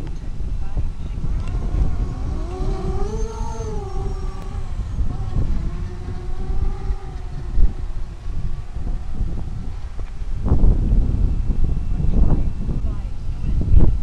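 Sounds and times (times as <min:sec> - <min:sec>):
quadcopter propellers whining: 0:00.0 - 0:13.0
wind rumble on microphone: 0:00.0 - 0:14.0.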